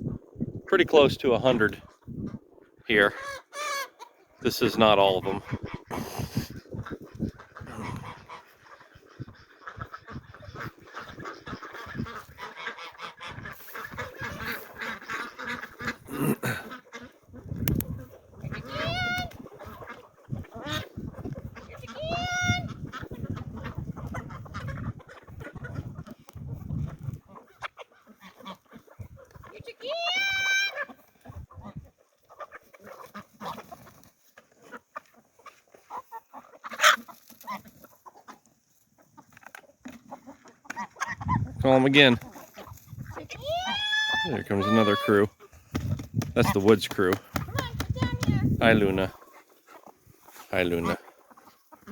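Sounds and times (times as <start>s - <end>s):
chickens clucking: 1.2s - 51.9s
geese honking: 2.9s - 17.4s, 18.0s - 26.2s, 27.2s - 38.4s, 40.0s - 45.6s, 46.4s - 51.9s
chatter of birds: 2.9s - 34.0s, 40.7s - 45.7s, 46.3s - 51.9s.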